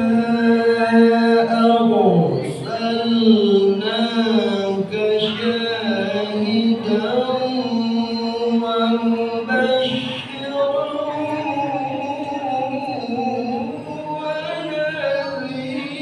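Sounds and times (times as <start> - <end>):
man chanting devotional song: 0.0 - 16.0.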